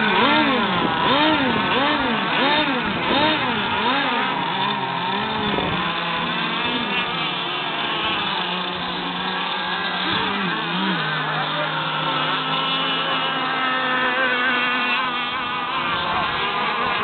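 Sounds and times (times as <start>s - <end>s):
model boat engines revving: 0.0s - 17.0s.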